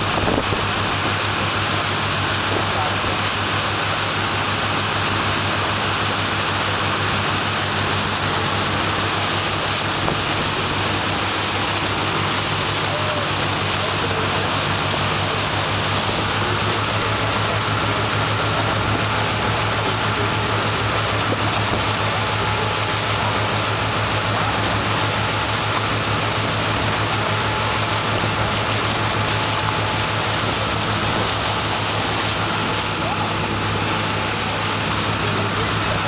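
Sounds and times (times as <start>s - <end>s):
churning wake water: 0.0s - 36.0s
low boat engine hum: 0.0s - 36.0s
wind: 0.0s - 36.0s.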